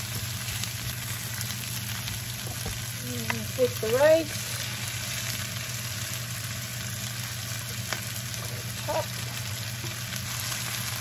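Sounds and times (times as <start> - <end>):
low steady hum: 0.0 - 11.0
vegetables sizzling in a pan: 0.0 - 11.0.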